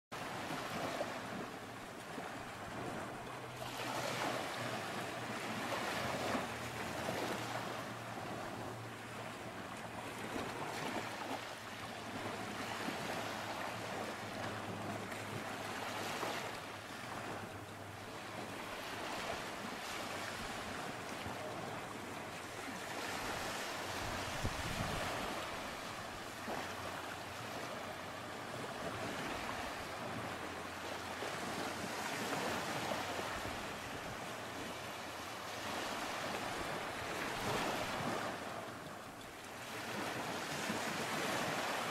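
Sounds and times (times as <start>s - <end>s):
ocean surf washing ashore: 0.2s - 41.9s.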